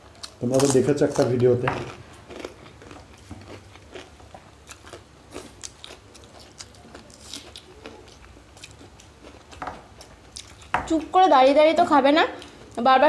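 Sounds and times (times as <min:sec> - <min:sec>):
chewing crisp crunches: 0:00.0 - 0:11.2.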